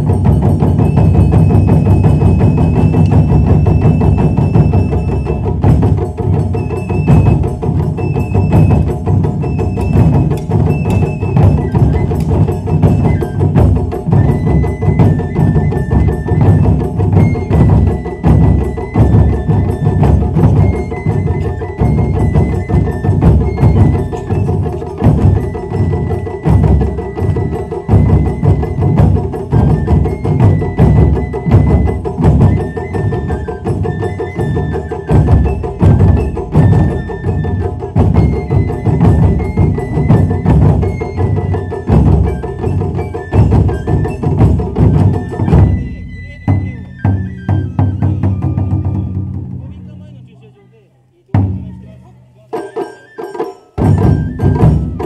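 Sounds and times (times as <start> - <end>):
taiko drum ensemble: 0.0 - 50.3, 51.3 - 55.0.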